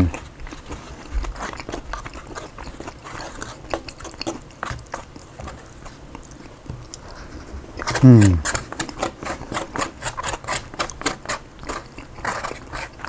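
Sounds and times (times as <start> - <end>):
wet chewing and biting: 0.0 - 7.2, 7.8 - 13.0.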